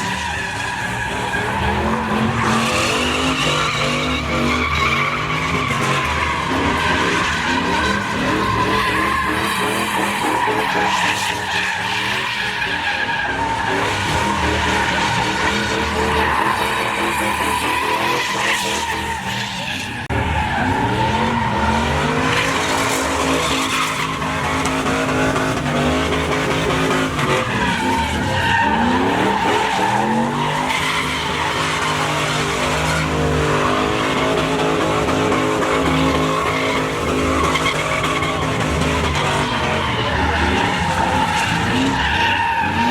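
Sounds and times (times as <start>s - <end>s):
truck engine revving: 0.0s - 11.4s, 20.0s - 42.9s
tyres squealing on pavement: 0.0s - 42.9s.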